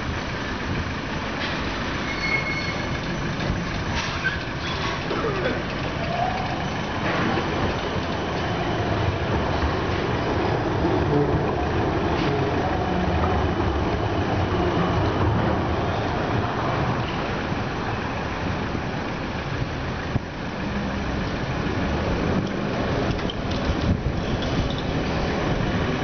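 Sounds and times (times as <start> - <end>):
street traffic: 0.0 - 26.0
tram running on street tracks: 0.0 - 26.0.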